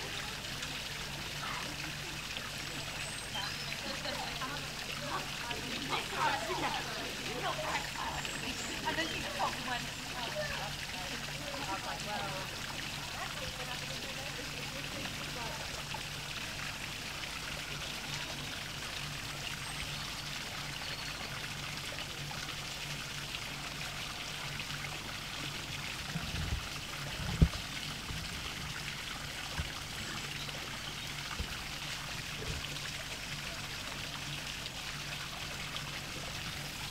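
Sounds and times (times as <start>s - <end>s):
water splashing into pond: 0.0s - 36.9s.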